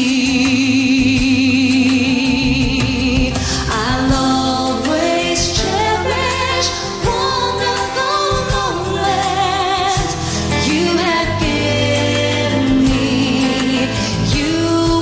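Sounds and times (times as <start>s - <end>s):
bass and keyboard backing: 0.0s - 15.0s
woman singing a ballad: 0.0s - 15.0s.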